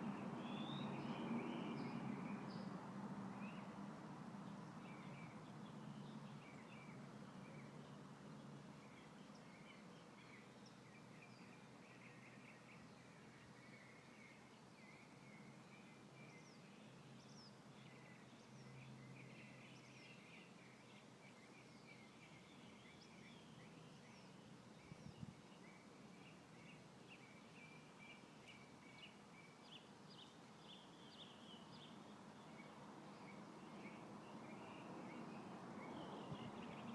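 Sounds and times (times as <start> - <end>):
faint breeze hiss: 0.0 - 36.9
light wind: 0.0 - 36.9
songbird chirping: 0.0 - 36.9.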